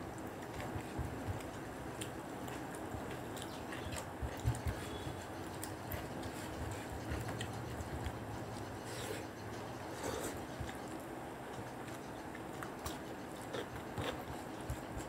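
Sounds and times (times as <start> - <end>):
chewing: 0.0 - 15.0
fingers working food on a plate: 0.4 - 15.0.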